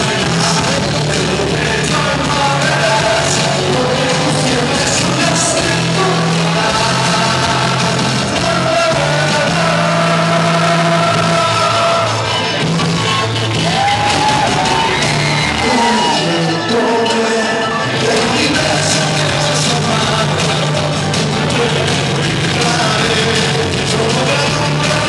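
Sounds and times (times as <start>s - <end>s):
man singing into a microphone: 0.0s - 12.5s, 15.5s - 25.0s
rock backing music: 0.0s - 25.0s.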